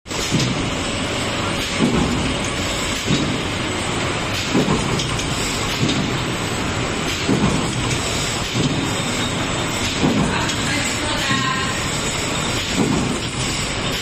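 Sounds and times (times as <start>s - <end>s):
printing machine running: 0.1s - 14.0s.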